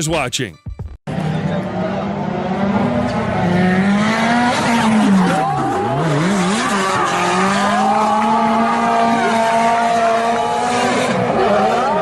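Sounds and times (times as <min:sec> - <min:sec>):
car engine revving hard: 0:01.1 - 0:12.0.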